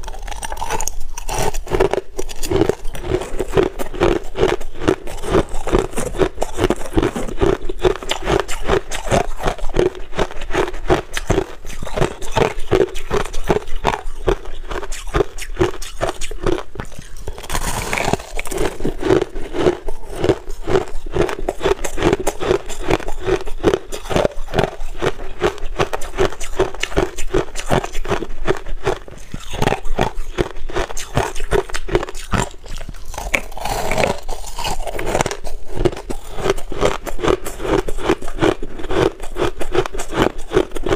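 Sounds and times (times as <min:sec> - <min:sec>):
crushed ice being chewed: 0:00.0 - 0:40.9
fingers scraping crushed ice: 0:00.0 - 0:40.9.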